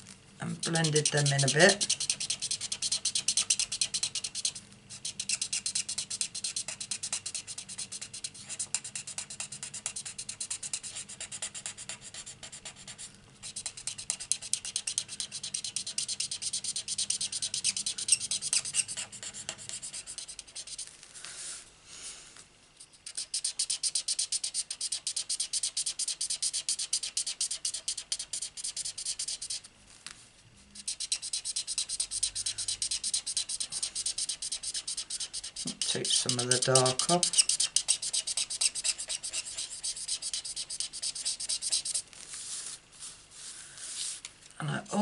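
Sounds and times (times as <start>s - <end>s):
marker scratching on cardstock: 0.5s - 21.0s, 22.8s - 29.7s, 30.8s - 43.2s.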